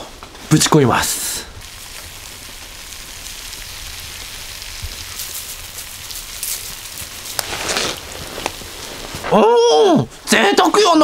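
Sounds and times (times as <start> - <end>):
chicken sizzling over charcoal: 0.0 - 11.0
small crackles and pops: 0.0 - 11.0.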